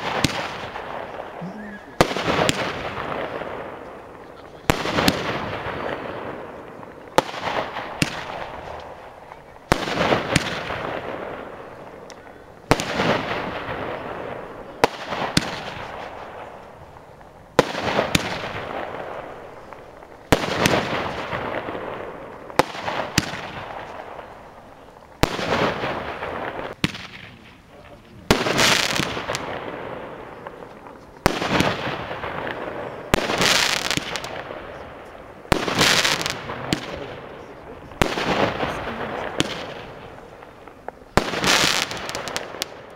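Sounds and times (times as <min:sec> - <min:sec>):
firework bangs with crackling hiss: 0:00.0 - 0:42.9.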